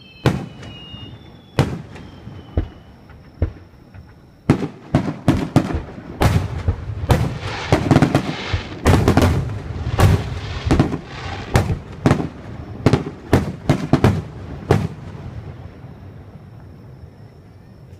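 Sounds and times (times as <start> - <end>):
fireworks crackling: 0.2 - 15.8
fireworks bangs: 0.2 - 16.0.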